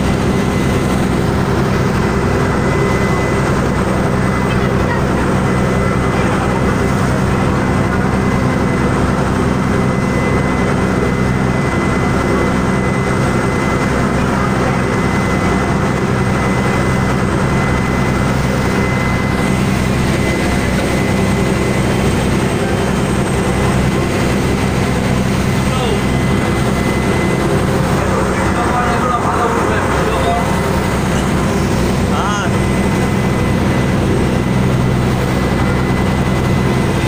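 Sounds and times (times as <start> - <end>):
boat engine droning: 0.0 - 37.0
rushing water wash: 0.0 - 37.0.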